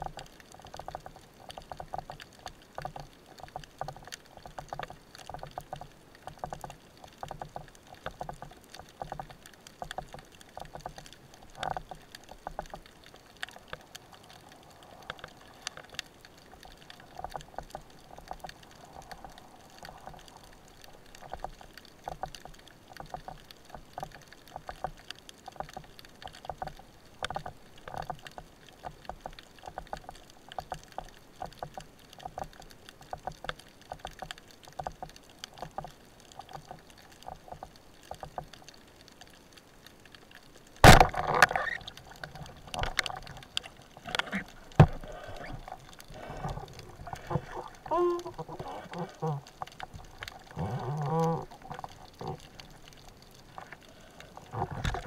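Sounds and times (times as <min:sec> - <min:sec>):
faint underwater clicks and crackles: 0:00.0 - 0:55.0.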